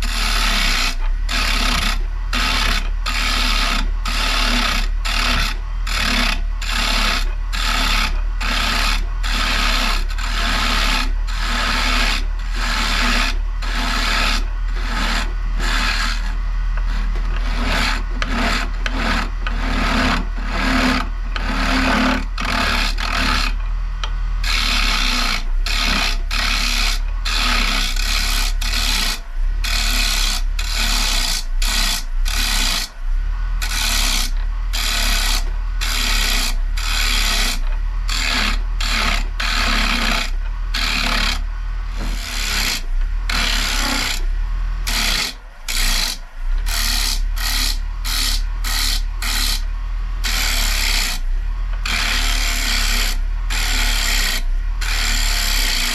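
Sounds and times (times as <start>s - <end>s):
lathe motor hum: 0.0s - 55.9s
turning tool scraping wood bowl: 0.0s - 55.9s.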